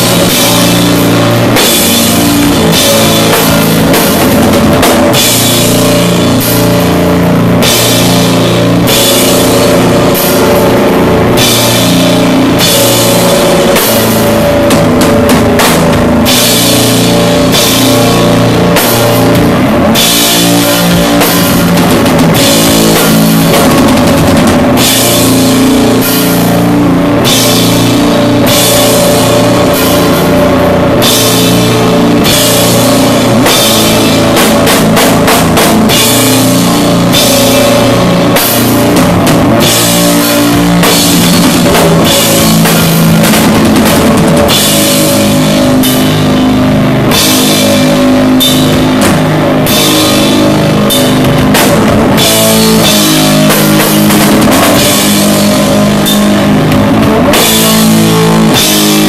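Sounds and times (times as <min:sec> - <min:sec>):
cymbal crashes: 0:00.0 - 0:59.0
doom metal band playing: 0:00.0 - 0:59.0.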